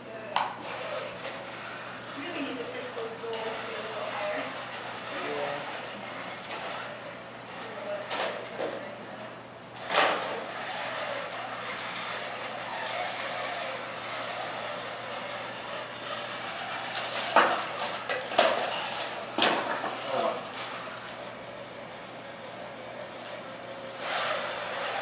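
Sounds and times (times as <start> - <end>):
small robots whirring: 0.6 - 21.8, 22.4 - 25.0.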